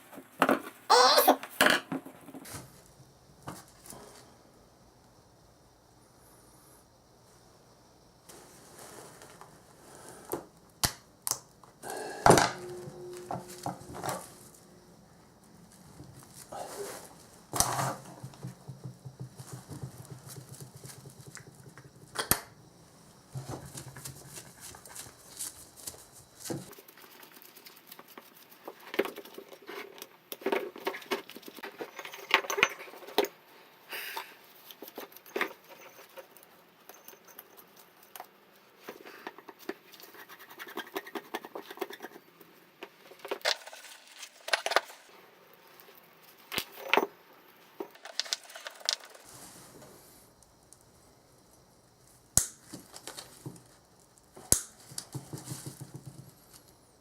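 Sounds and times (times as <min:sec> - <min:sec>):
background hum: 0:00.0 - 0:57.0.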